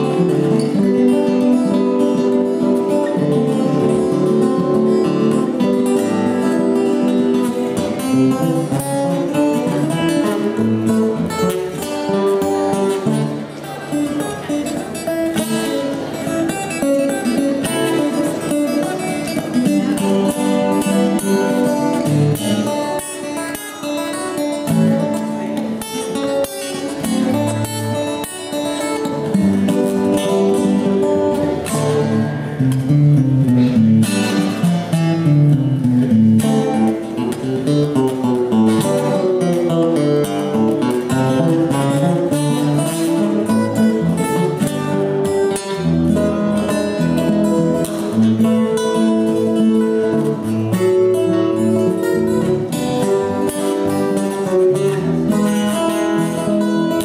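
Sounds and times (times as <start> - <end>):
acoustic guitars playing: 0.0 - 57.0.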